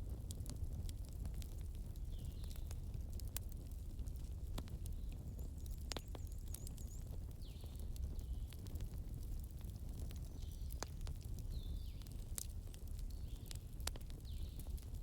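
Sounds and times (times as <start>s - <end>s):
flames rumbling: 0.0s - 6.3s, 7.1s - 15.0s
burning logs popping and snapping: 0.0s - 15.0s.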